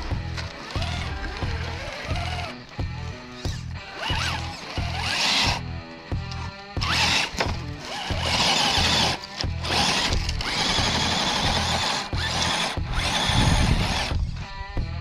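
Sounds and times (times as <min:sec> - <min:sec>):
tyres digging into loose dirt: 0:00.0 - 0:14.5
electric motor whirring: 0:00.0 - 0:14.7
music with steady beat: 0:00.0 - 0:15.0.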